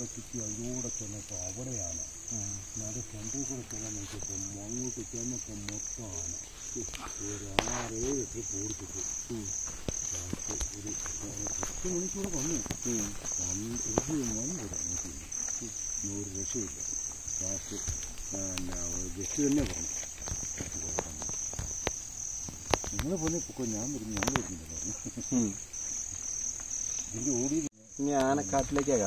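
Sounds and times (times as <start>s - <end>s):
insect chirping: 0.0s - 29.0s
sharp snaps: 2.3s - 27.2s.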